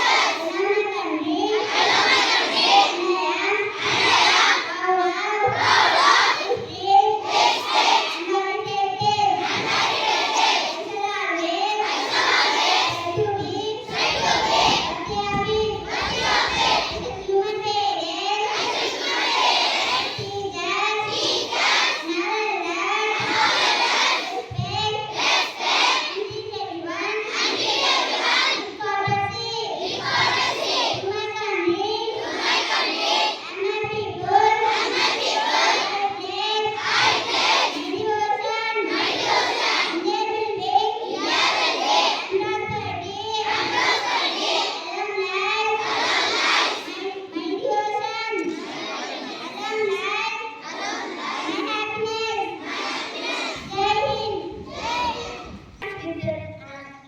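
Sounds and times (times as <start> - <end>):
children singing in unison: 0.0 - 55.8.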